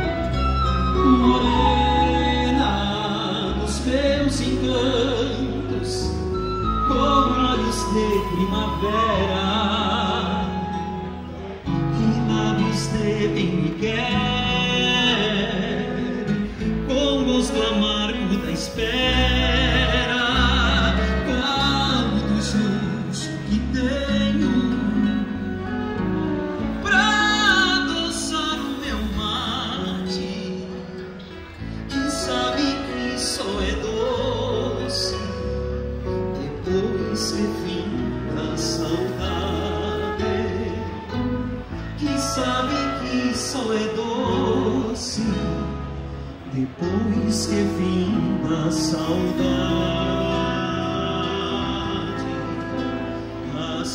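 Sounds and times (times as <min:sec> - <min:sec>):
acoustic guitars: 0:00.0 - 0:53.9
electric bass: 0:00.0 - 0:53.9
flute: 0:00.0 - 0:53.9
man singing with vibrato: 0:00.0 - 0:53.9.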